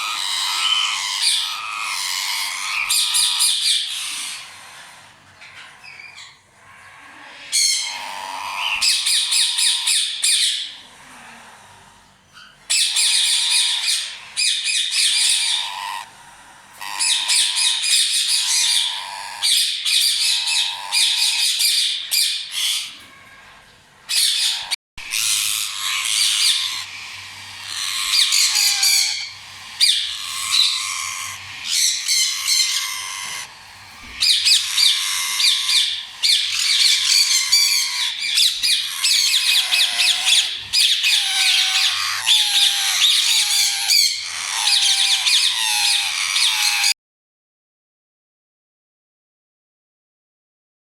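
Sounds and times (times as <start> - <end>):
parakeet chicks squawking: 0.0 - 47.0.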